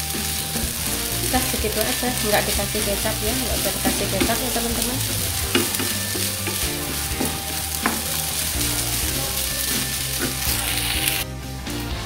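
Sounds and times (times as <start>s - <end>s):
rice sizzling in frying pan: 0.0s - 11.9s
spatula scraping pan: 0.1s - 11.2s.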